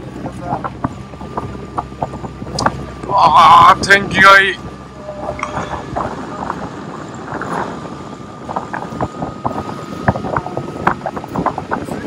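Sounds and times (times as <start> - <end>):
boat motor running: 0.0 - 12.0
water splashing: 0.0 - 12.0
wind: 0.0 - 12.0
faint steady whine: 0.3 - 12.0.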